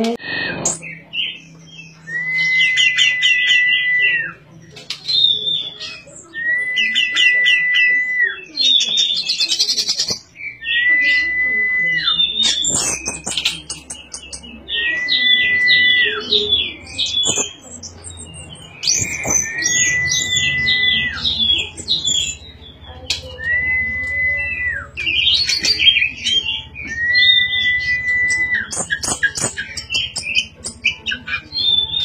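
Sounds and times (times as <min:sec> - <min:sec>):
thrush singing: 0:00.0 - 0:32.0.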